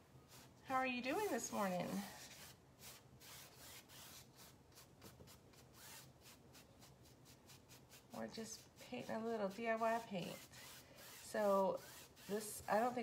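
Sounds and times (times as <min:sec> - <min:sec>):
paintbrush brushing on canvas: 0:00.3 - 0:13.0.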